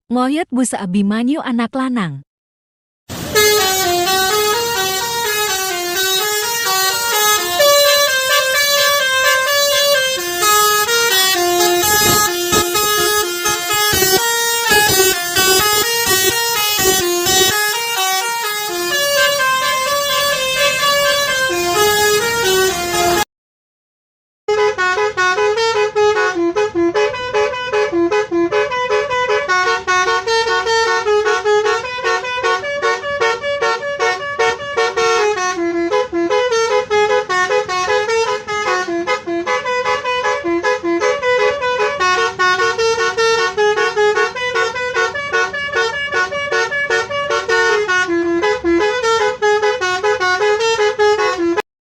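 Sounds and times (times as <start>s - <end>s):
multi-tone bus horn melody: 3.1s - 23.3s, 24.5s - 51.7s.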